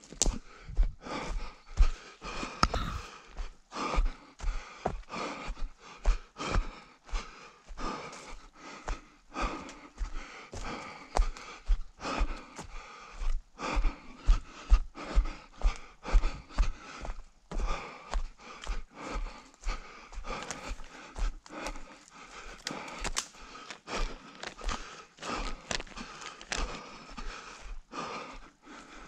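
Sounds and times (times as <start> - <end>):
runner panting: 0.0 - 29.0.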